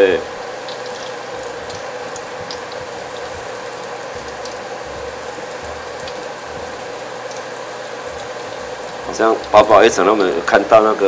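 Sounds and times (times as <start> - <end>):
mushrooms deep-frying in hot oil: 0.0 - 11.0.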